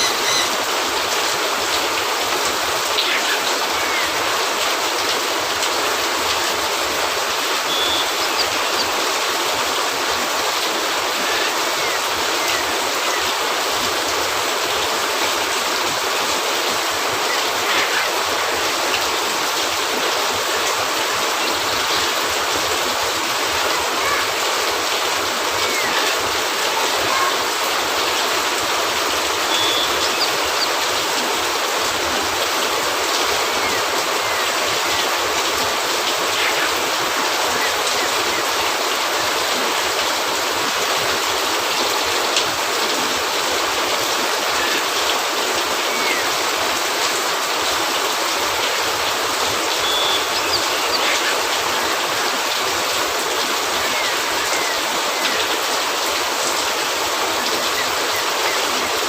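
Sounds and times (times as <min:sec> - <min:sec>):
rain falling on a roof: 0:00.0 - 0:59.0.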